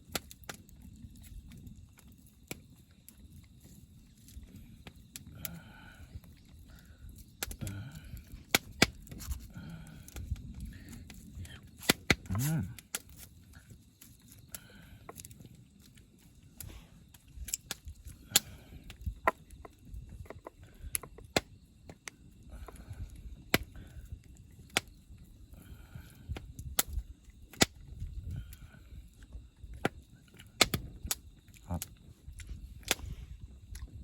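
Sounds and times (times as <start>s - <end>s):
burning wood popping: 0.0s - 34.0s
campfire crackling: 0.0s - 34.0s.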